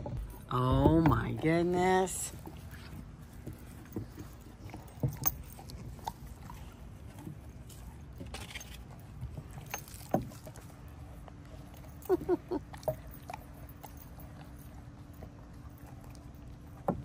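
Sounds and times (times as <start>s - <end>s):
dogs chewing and licking: 0.0s - 17.0s.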